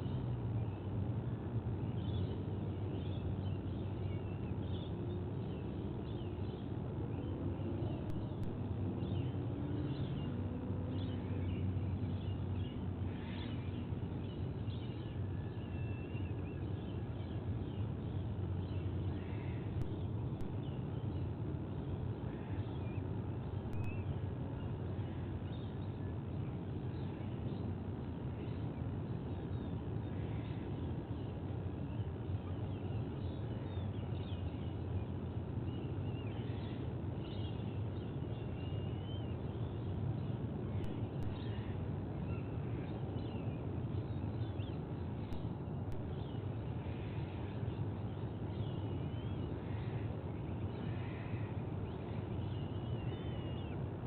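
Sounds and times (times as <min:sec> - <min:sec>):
low background rumble: 0:00.0 - 0:54.0.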